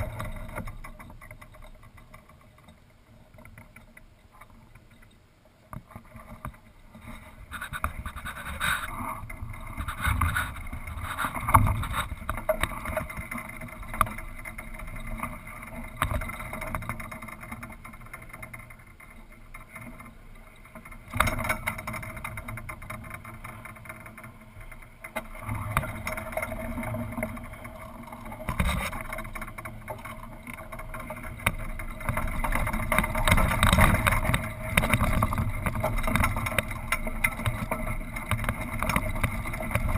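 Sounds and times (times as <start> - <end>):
mast and rigging rattling: 0.0 - 39.9.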